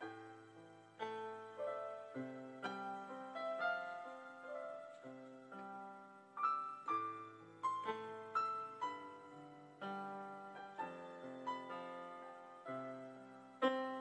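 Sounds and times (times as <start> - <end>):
slow gentle piano: 0.0 - 14.0.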